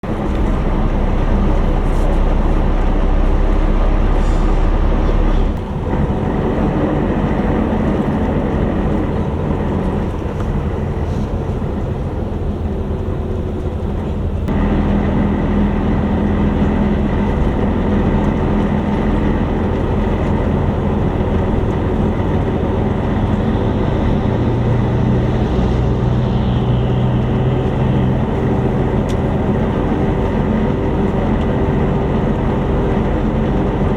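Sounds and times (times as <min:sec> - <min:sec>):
bus engine drone: 0:00.0 - 0:33.9
road noise: 0:00.0 - 0:33.9.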